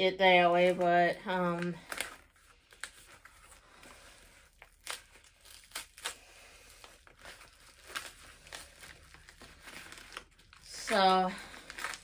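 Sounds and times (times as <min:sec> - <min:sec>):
paper mailer envelope crinkling: 0:00.4 - 0:12.0.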